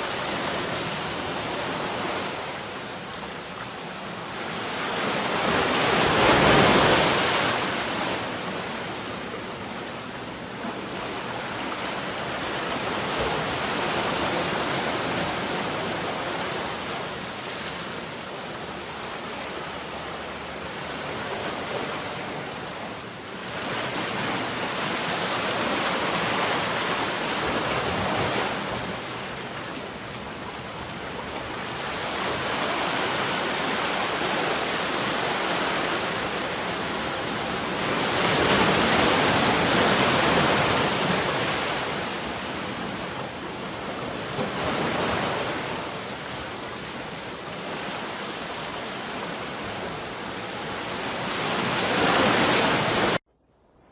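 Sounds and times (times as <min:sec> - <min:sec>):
sea waves breaking on shore: 0:00.0 - 0:53.2.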